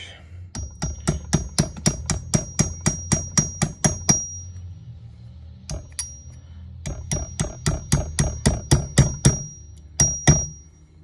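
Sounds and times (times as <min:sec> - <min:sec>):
hammer tapping steel punch: 0:00.5 - 0:04.6, 0:05.7 - 0:10.8.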